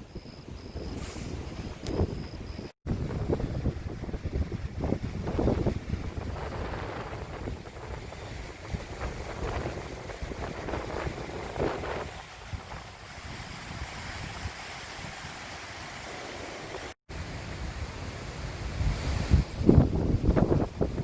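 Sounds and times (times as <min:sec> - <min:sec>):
gusty wind buffeting microphone: 0:00.0 - 0:21.0.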